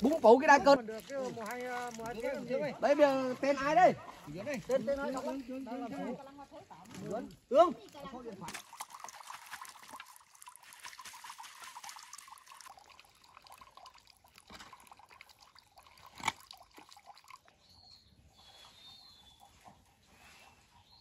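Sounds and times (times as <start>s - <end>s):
water splashing and dripping: 0.0s - 18.8s.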